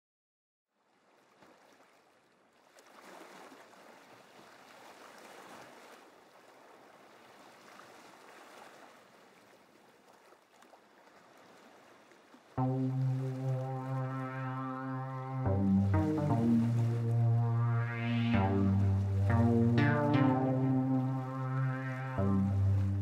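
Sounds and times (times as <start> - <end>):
faint sea waves washing: 2.8 - 23.0.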